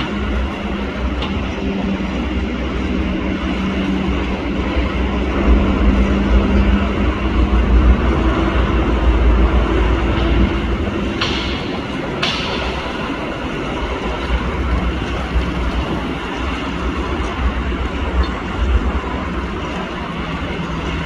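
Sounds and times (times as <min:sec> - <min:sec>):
heavy engine rumbling: 0:00.0 - 0:21.0.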